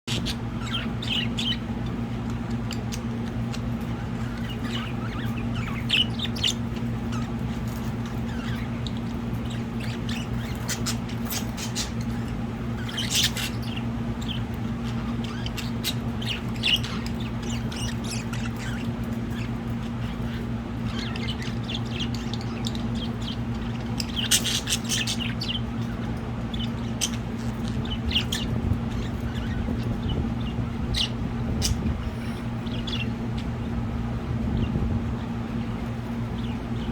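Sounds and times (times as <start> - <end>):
budgerigars chirping and squawking: 0.1 - 36.9
steady low hum: 0.1 - 36.9.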